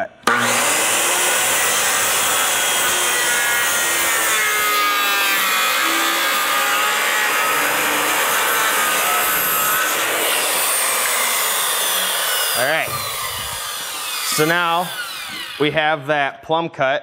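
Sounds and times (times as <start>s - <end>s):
circular saw cutting wood: 0.0s - 16.4s.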